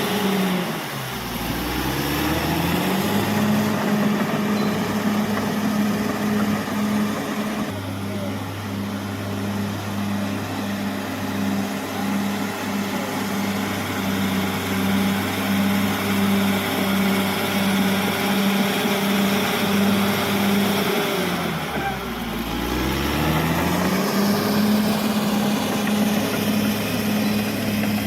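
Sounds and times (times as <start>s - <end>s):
bulldozer diesel engine throbbing: 0.0s - 28.0s.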